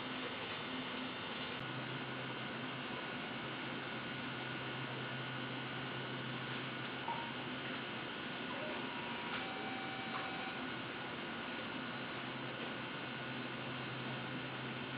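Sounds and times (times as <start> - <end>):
electrical hum and hiss: 0.0 - 14.9.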